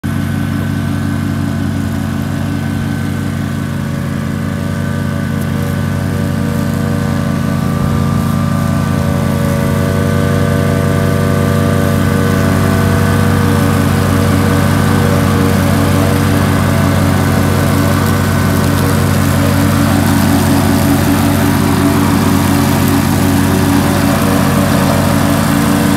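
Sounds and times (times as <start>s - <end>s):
remote-controlled mower engine running: 0.0s - 25.9s.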